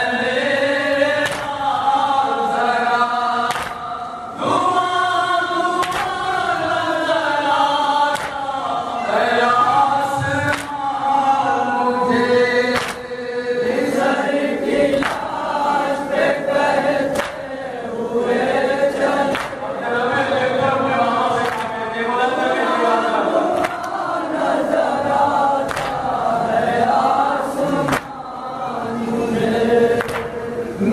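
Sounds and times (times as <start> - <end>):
men chanting in unison: 0.0 - 30.9.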